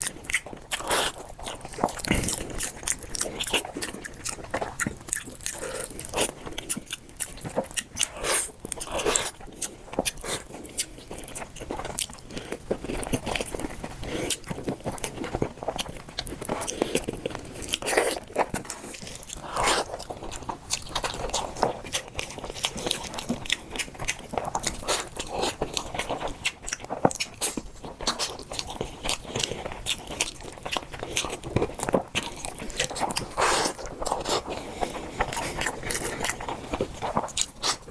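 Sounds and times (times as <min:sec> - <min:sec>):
wet chewing: 0:00.0 - 0:37.9.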